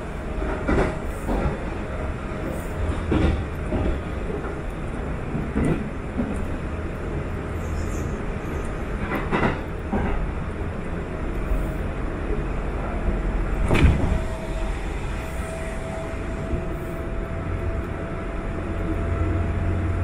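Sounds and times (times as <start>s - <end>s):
passing train whoosh: 0.0s - 20.0s
train wheels rumbling on rail: 0.0s - 20.0s.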